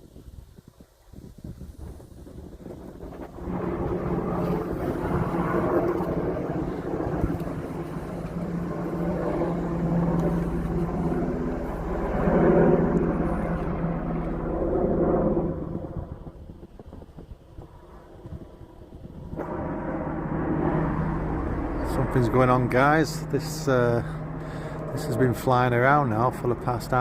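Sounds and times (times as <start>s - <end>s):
helicopter flying overhead: 1.5s - 27.0s.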